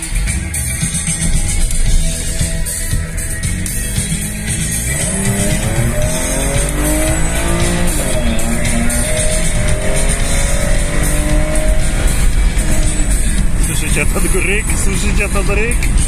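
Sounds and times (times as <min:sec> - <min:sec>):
car engine accelerating: 0:00.0 - 0:16.0
rock music: 0:00.0 - 0:16.0.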